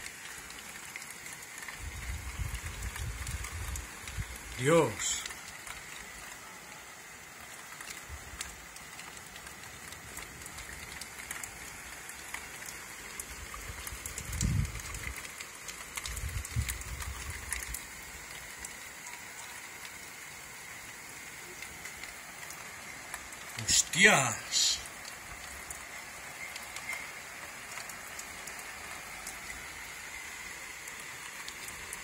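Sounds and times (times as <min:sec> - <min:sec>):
raindrops ticking on window glass: 0:00.0 - 0:24.0, 0:24.8 - 0:32.0
heavy rain: 0:00.0 - 0:32.0.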